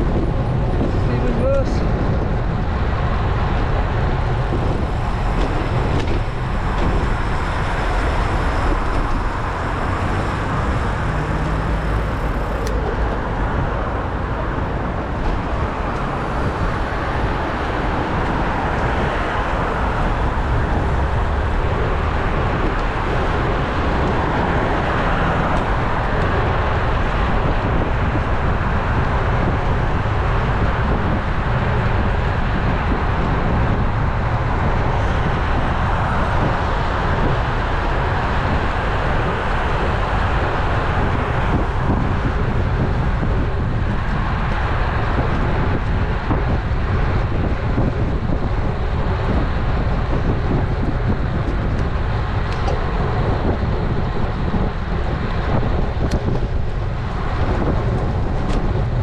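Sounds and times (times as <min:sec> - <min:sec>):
bike tyre and road noise: 0:00.0 - 0:59.0
wind rush on microphone: 0:00.0 - 0:59.0.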